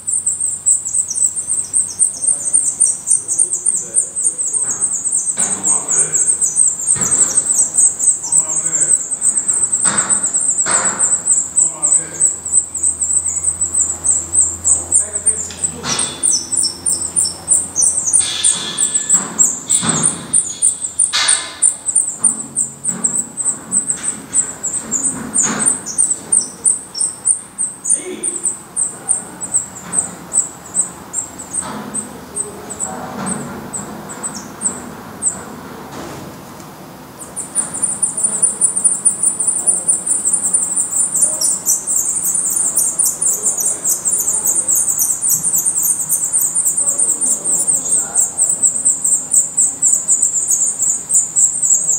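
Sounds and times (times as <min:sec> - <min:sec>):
nestlings cheeping: 0:00.0 - 0:51.9.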